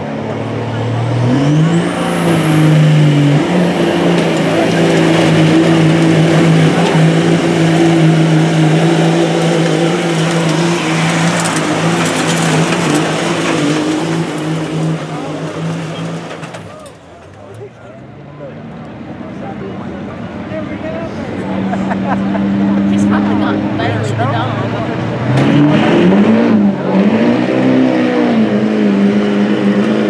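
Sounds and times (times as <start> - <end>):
diesel engine revving at full throttle: 0.0 - 17.0, 21.3 - 30.0.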